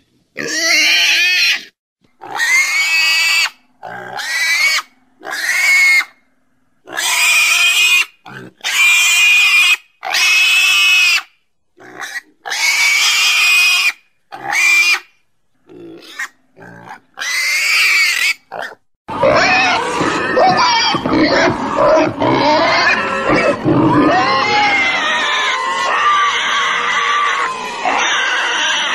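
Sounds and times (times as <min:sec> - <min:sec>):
pigs squealing: 0:00.4 - 0:06.2, 0:06.9 - 0:28.9.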